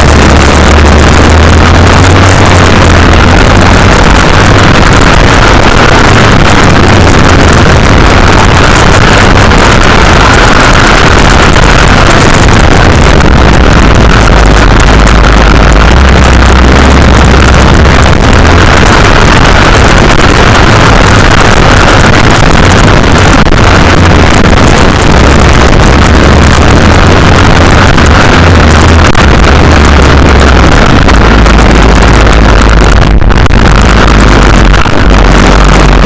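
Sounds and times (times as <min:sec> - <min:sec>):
motocross bike engine running: 0:00.0 - 0:36.0
wind noise on microphone: 0:00.0 - 0:36.0.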